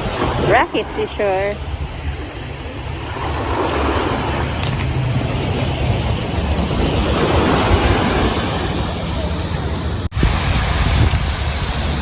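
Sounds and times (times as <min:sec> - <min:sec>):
sea waves on rocky shore: 0:00.0 - 0:12.0
wind rumbling on microphone: 0:00.0 - 0:12.0.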